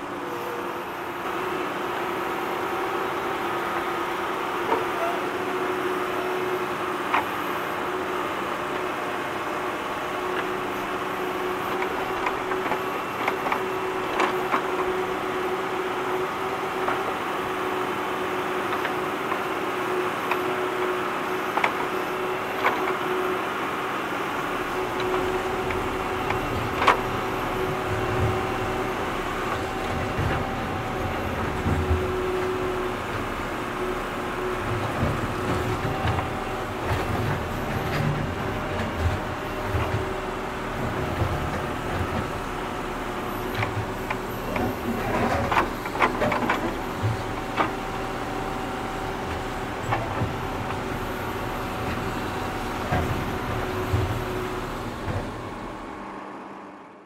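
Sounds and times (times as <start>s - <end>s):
tractor engine digging: 0.0s - 56.0s.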